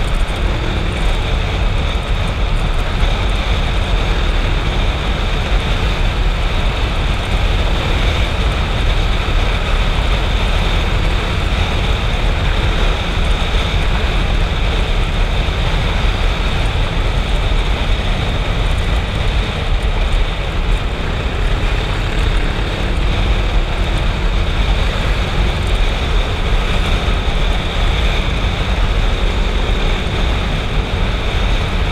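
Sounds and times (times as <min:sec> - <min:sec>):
motorcycle engine drone: 0:00.0 - 0:31.9
wind rushing over microphone: 0:00.0 - 0:31.9.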